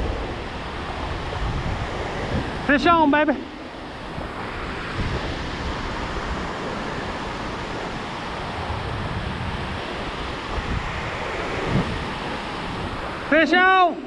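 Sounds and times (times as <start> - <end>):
wind buffeting microphone: 0.0 - 13.3
ocean surf breaking on beach: 0.0 - 14.0.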